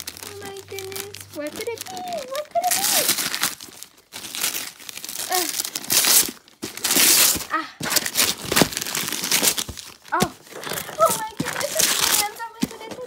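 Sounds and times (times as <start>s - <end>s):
wrapping paper ripping and crumpling: 0.0s - 13.0s.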